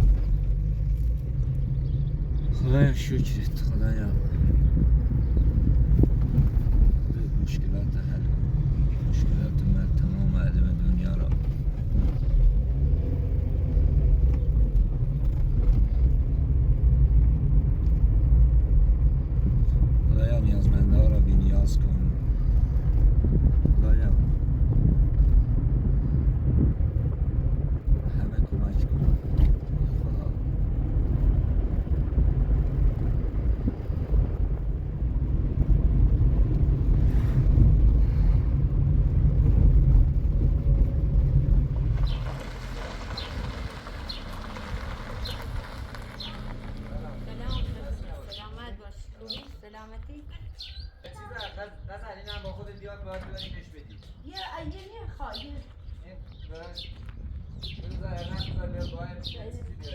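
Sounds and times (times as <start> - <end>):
moving vehicle rumble: 0.0 - 59.9
wind buffeting microphone: 0.0 - 59.9.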